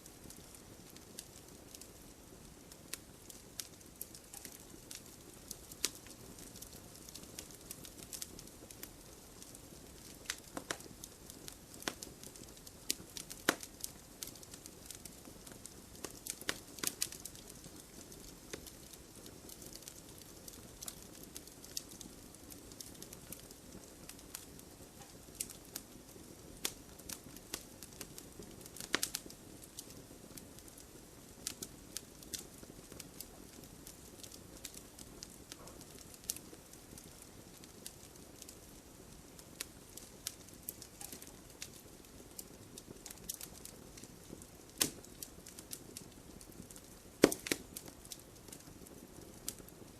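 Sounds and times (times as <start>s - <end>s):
fire pops and snaps: 0.0s - 49.9s
hiss of flames: 0.0s - 49.9s.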